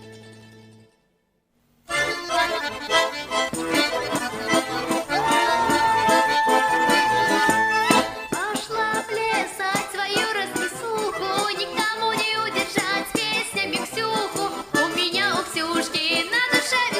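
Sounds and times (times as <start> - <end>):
accordion folk dance tune: 1.9 - 16.9.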